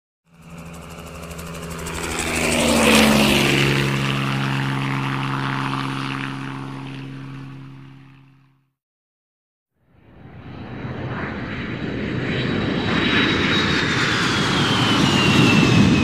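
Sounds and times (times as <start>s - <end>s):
helicopter flying past: 0.3s - 8.7s, 9.8s - 16.0s.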